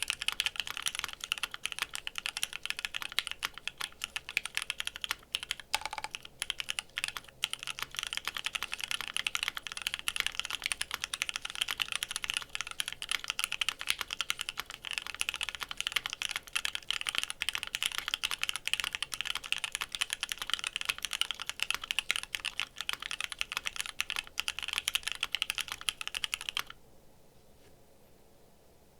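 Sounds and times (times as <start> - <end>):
fast typing on mechanical keyboard: 0.0 - 26.8.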